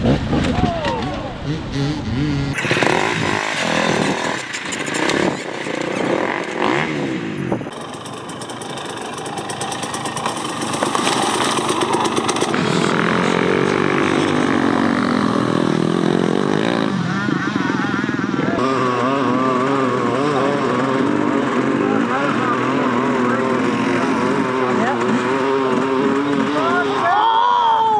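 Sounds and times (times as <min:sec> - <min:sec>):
dirt bike engines revving: 0:00.0 - 0:27.9.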